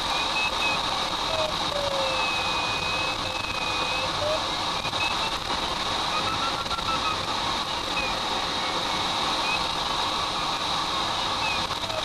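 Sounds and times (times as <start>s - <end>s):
rushing airflow in cockpit: 0.0s - 12.0s.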